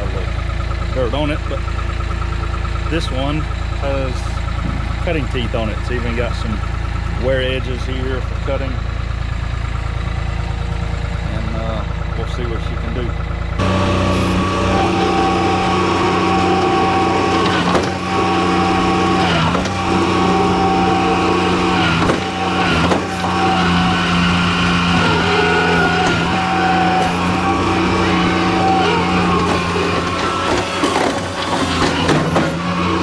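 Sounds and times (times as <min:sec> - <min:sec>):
skid steer engine at high throttle: 0:00.0 - 0:33.0.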